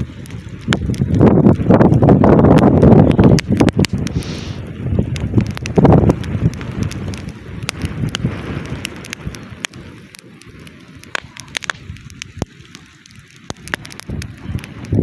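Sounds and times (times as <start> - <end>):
campfire crackling and snapping: 0.0 - 15.0
wind rumbling on microphone: 0.0 - 15.0.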